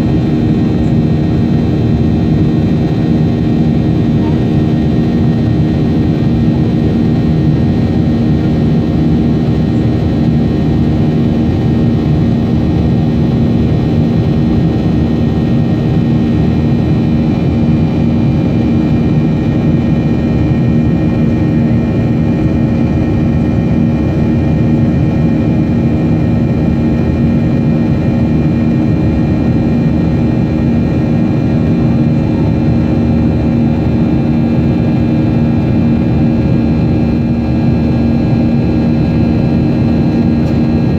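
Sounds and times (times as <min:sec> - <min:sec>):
jet cabin engine drone: 0:00.0 - 0:40.9.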